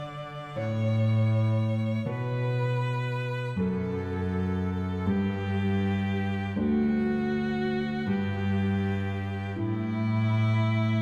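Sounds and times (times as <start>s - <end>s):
slow sustained chords music: 0.0s - 11.0s.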